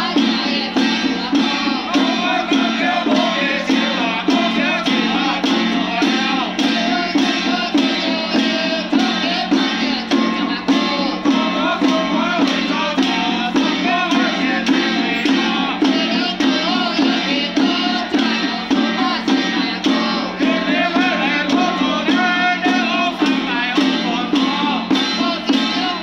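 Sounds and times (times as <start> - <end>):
hand drum beats: 0.0 - 26.0
men chanting: 0.0 - 26.0.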